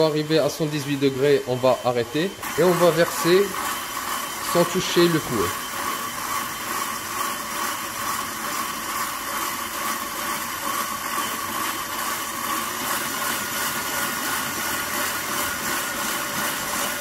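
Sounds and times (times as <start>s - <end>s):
stand mixer whisking: 0.0s - 17.0s.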